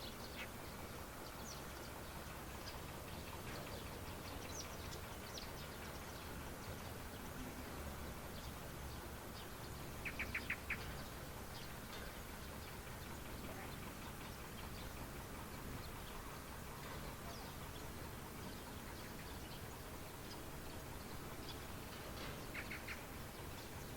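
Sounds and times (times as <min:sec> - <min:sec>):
birds chirping: 0:00.0 - 0:23.9
faint background hiss: 0:00.0 - 0:23.9.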